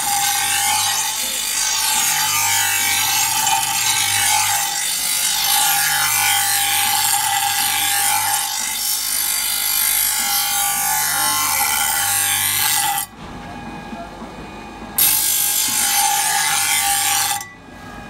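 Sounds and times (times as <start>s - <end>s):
grinder motor hum: 0.0s - 13.1s, 15.0s - 18.0s
grinder wheel scraping metal: 0.0s - 13.1s, 15.0s - 17.6s.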